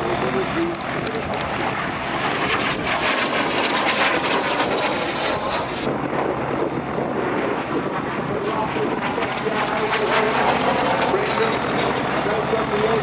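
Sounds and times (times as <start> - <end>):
jet engine rushing: 0.0 - 13.0.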